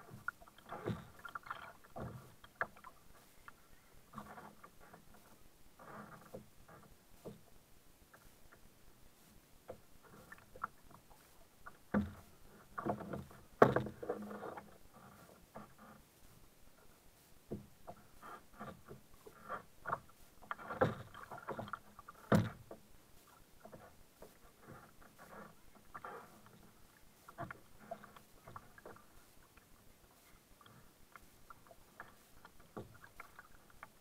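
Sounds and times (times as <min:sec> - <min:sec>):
kayak paddle splashing: 0:00.0 - 0:34.0.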